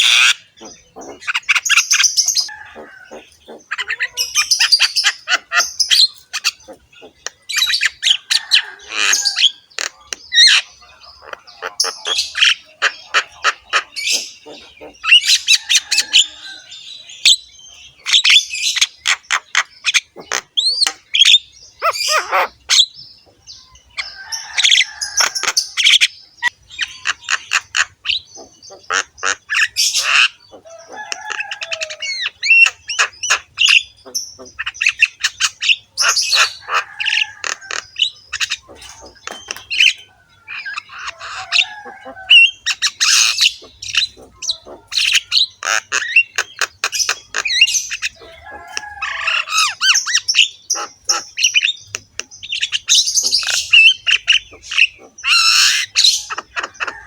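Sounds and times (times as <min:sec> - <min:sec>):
bird singing harsh song: 0:00.0 - 0:57.0.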